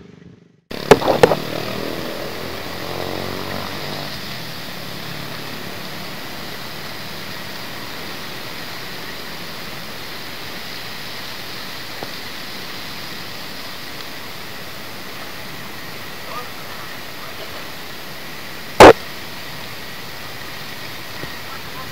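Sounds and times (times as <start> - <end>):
rain falling: 0.7 - 21.9.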